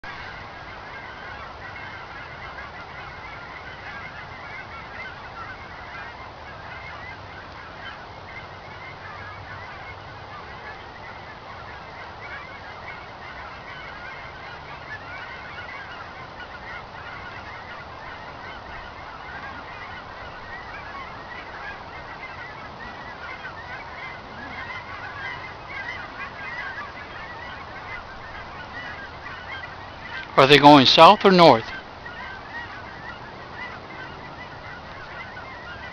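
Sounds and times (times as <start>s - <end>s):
flock of birds calling: 0.0s - 35.9s.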